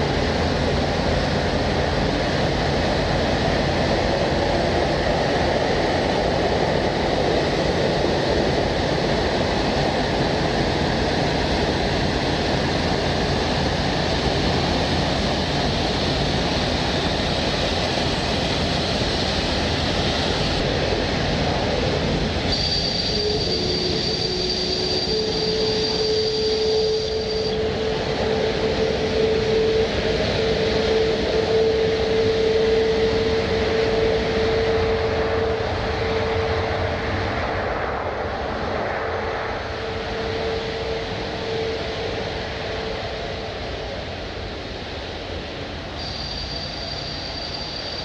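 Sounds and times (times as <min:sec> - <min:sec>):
high whine: 0:00.0 - 0:48.0
jet engines roaring: 0:00.0 - 0:48.0.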